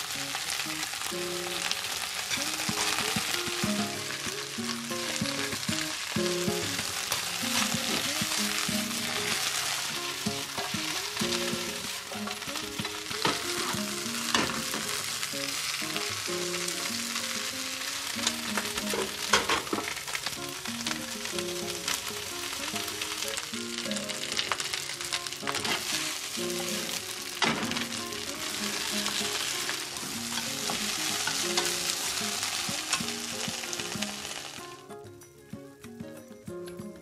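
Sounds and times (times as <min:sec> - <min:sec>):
greens sizzling in oil: 0:00.0 - 0:36.6
soft melody: 0:00.0 - 0:37.0.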